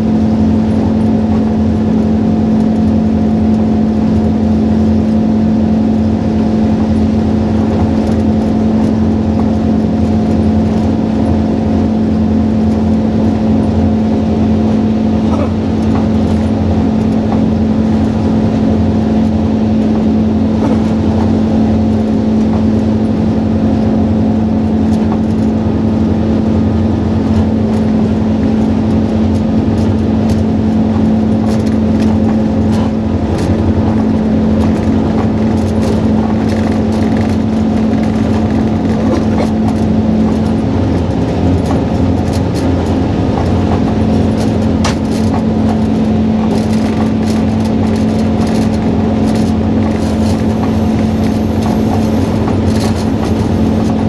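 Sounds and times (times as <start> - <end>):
diesel locomotive hum: 0.0 - 54.0.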